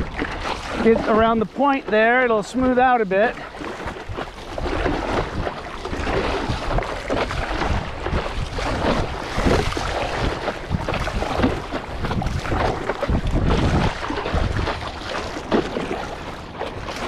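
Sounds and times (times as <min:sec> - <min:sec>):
paddle strokes in water: 0:00.0 - 0:17.0
water splashing against paddleboard: 0:00.0 - 0:17.0
wind rumble on microphone: 0:00.0 - 0:17.0.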